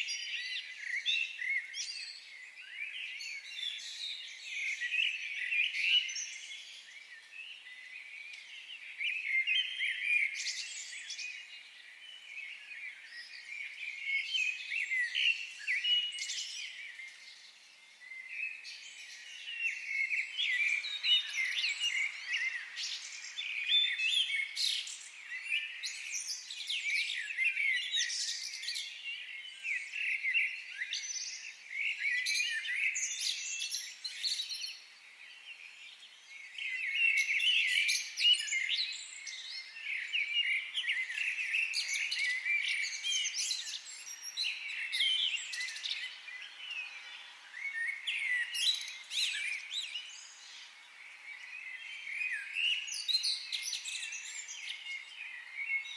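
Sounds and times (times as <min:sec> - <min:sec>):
songbirds chirping and trilling: 0:00.0 - 0:55.9.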